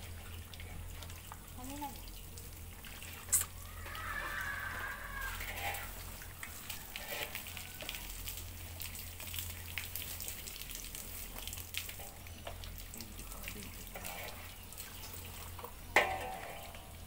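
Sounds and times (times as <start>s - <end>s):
hose water splashing: 0.0s - 17.0s.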